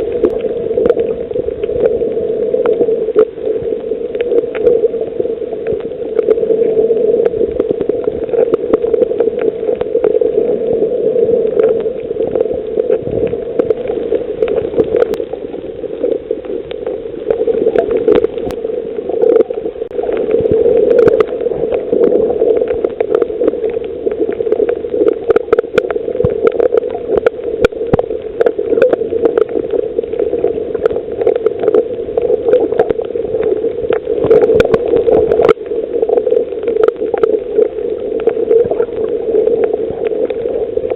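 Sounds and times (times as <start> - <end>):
low underwater drone: 0.0 - 40.9.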